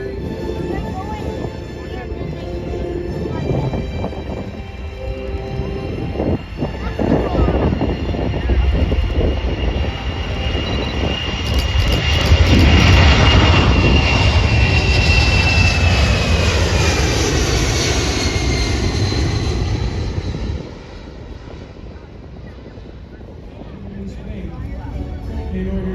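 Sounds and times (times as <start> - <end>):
aircraft flying past: 0.0 - 25.9.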